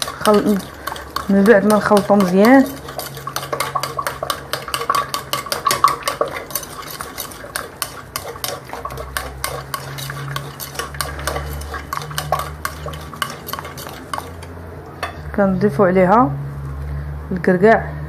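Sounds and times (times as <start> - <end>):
utensil stirring batter in bowl: 0.0 - 15.2.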